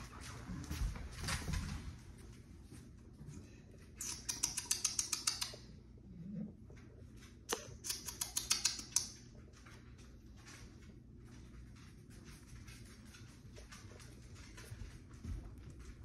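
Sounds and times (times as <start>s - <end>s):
dog toenails clicking on floor: 0.0s - 16.0s.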